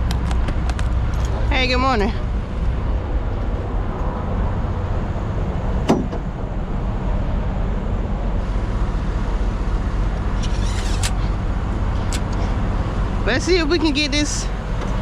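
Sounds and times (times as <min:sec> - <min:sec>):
diesel truck engine idling: 0:01.4 - 0:15.0.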